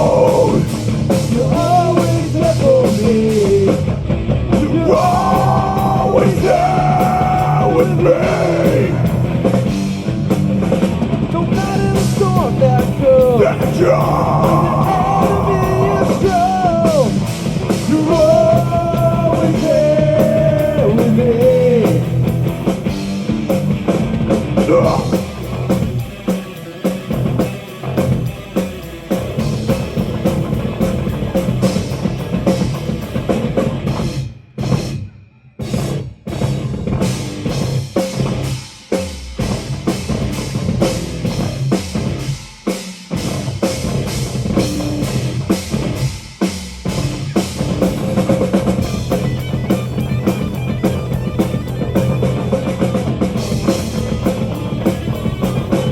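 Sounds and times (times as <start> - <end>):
distorted guitars: 0.0 - 55.9
drum kit: 0.0 - 55.9.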